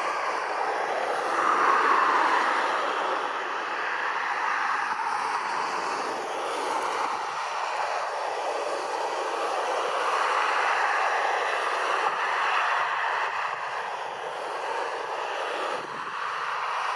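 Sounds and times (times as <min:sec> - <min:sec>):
jet engines at takeoff: 0:00.0 - 0:16.9.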